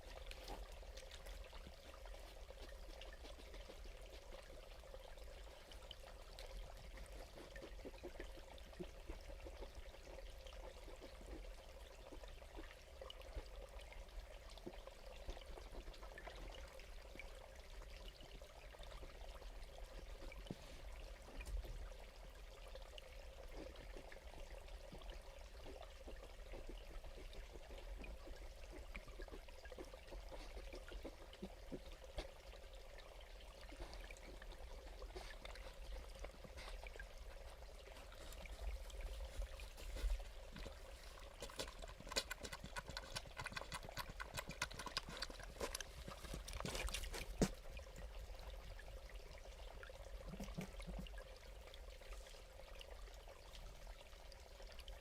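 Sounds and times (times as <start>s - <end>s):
small water splashes: 0.0s - 55.0s
water trickling: 0.0s - 55.0s.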